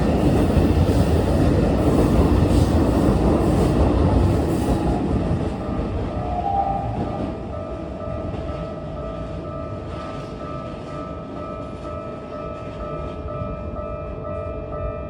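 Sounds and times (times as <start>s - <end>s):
train rumbling over rail joints: 0.0s - 15.0s.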